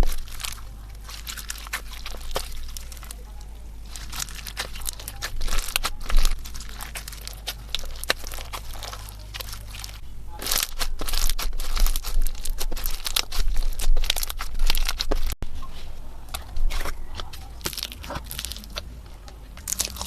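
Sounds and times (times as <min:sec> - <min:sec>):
slime crackling and popping: 0:00.0 - 0:15.4, 0:16.3 - 0:18.9, 0:19.6 - 0:20.0.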